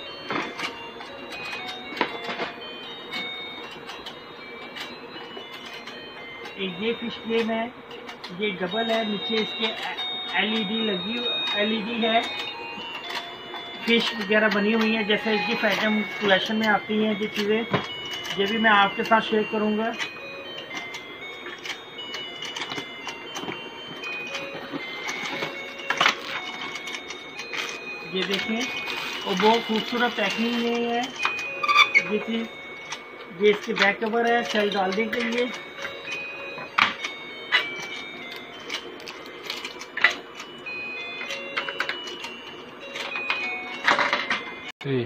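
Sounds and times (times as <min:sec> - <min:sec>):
toy electronic tune beeping: 0:00.0 - 0:44.7.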